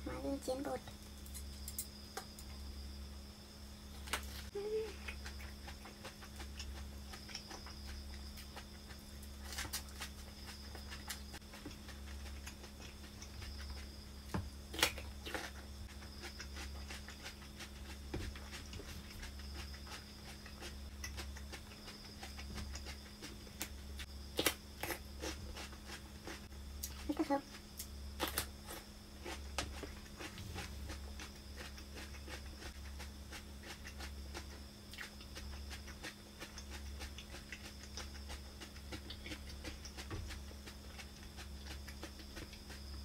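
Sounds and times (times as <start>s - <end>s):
steady low hum: 0.0s - 43.0s
chewing raw vegetables: 4.0s - 43.0s
crunching cucumber: 4.0s - 43.0s.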